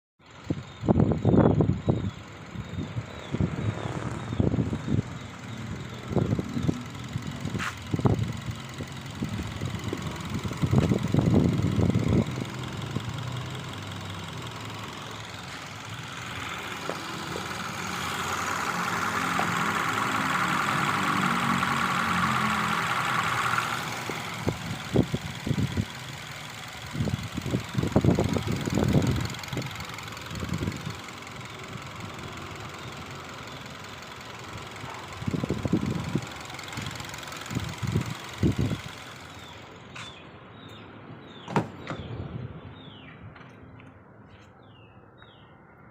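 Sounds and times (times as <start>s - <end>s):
car engine idling: 0.2s - 42.1s
high-pitched engine sound: 0.9s - 39.7s.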